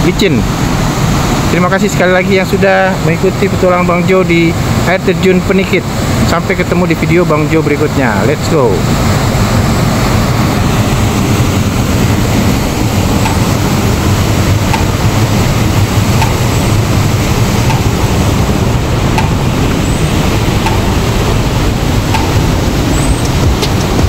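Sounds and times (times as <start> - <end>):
loud rushing noise: 0.0 - 24.0.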